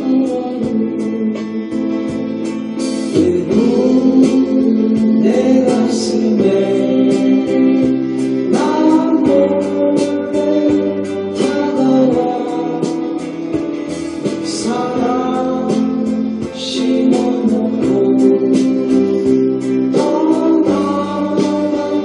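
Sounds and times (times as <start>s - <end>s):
person singing: 0.0s - 22.0s
steady beat: 0.0s - 22.0s
strummed acoustic guitar: 0.0s - 22.0s.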